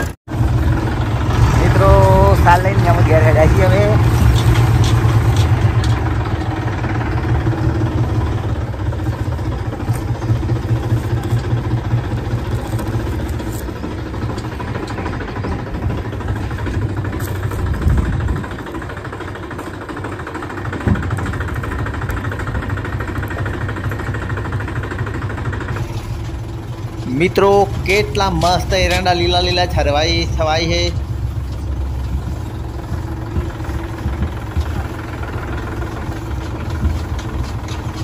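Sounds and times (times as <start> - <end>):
farm vehicle engine running: 0.0 - 38.0.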